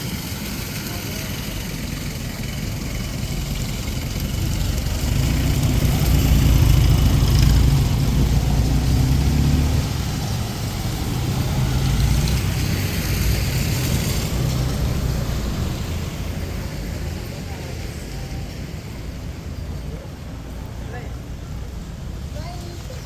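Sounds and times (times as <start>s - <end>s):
vehicle engine running: 0.0s - 20.6s
rain hiss: 0.0s - 23.0s.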